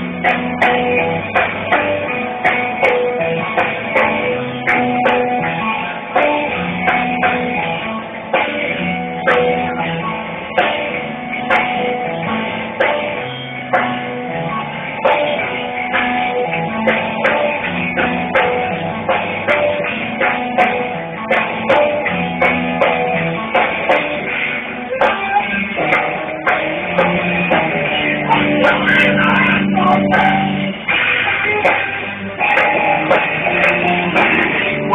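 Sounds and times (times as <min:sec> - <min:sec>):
bass guitar: 0:00.0 - 0:34.9
drum beat: 0:00.0 - 0:34.9
electric guitar: 0:00.0 - 0:34.9.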